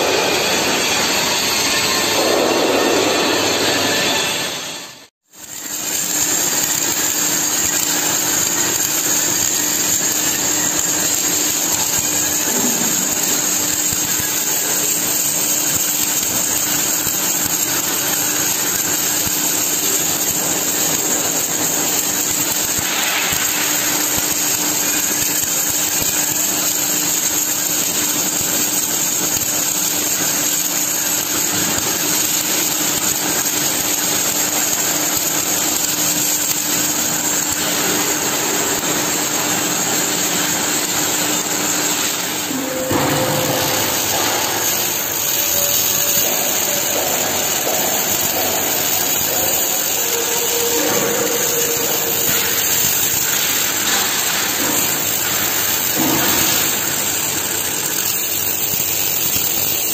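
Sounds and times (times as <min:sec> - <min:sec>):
welding arc crackling sizzle: 0:00.0 - 0:59.9.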